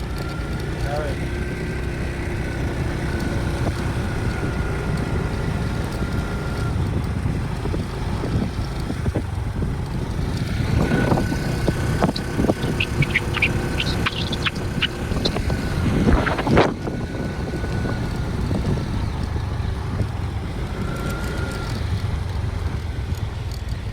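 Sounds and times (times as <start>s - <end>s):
vehicle engine running: 0.0s - 23.9s
wind buffeting microphone: 2.5s - 23.9s.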